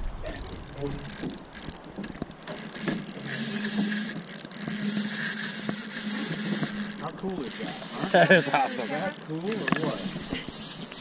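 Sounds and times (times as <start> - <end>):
fishing reel gears whirring: 0.2 - 11.0.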